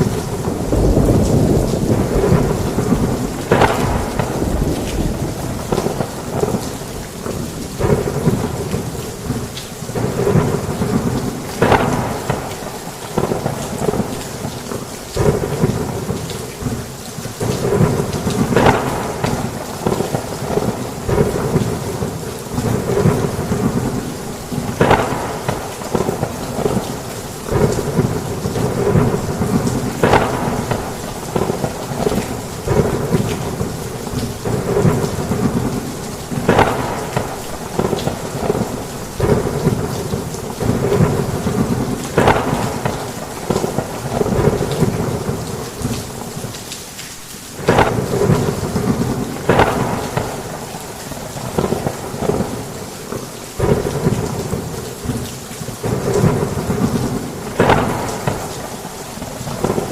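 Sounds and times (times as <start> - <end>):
loud thunder claps: 0.0 - 46.5, 47.6 - 59.9
low rumble of thunder: 0.0 - 46.6, 47.6 - 59.9
heavy rain pouring: 0.0 - 59.9.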